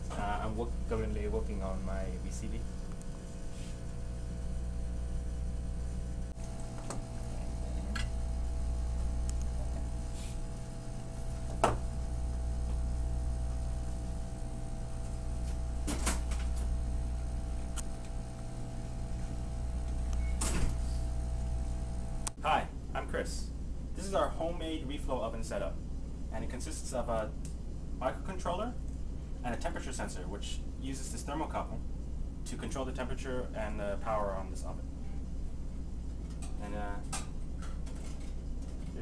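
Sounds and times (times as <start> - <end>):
low equipment hum: 0.0 - 39.0.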